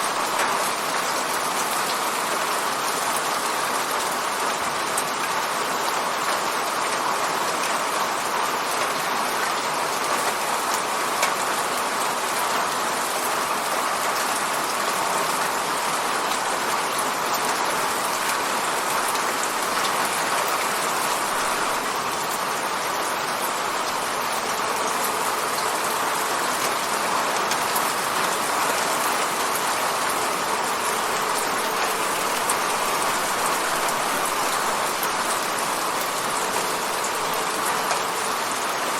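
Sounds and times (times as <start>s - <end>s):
rain pattering against a window: 0.0s - 38.9s.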